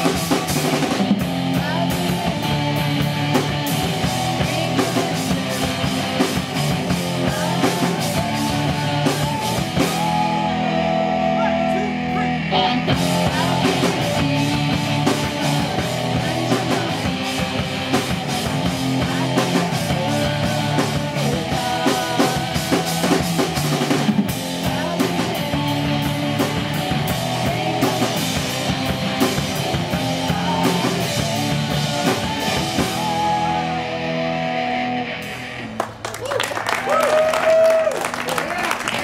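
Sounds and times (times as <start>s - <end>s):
pounding drum kit: 0.0s - 35.6s
distorted electric guitars: 0.0s - 36.1s.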